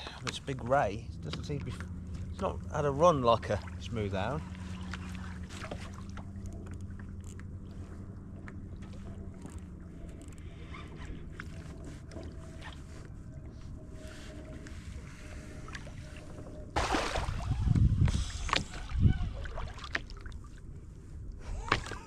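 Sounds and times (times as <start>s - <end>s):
steady low rumble: 0.0s - 22.0s
water lapping against kayak hull: 0.0s - 22.0s.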